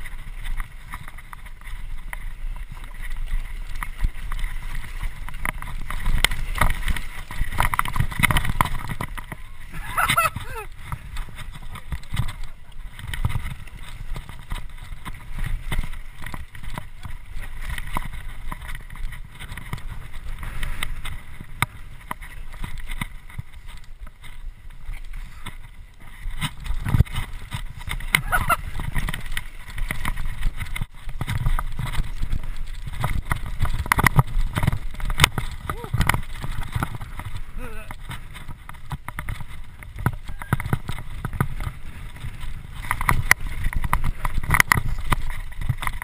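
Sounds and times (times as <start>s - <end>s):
bike chain and frame rattling: 0.0s - 46.0s
wind buffeting microphone: 0.0s - 46.0s.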